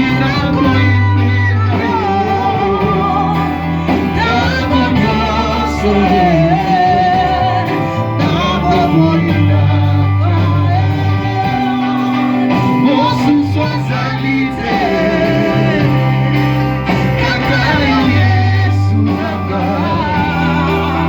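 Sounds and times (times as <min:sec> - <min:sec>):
long held bass notes: 0:00.0 - 0:21.0
worship singing with band: 0:00.0 - 0:21.0.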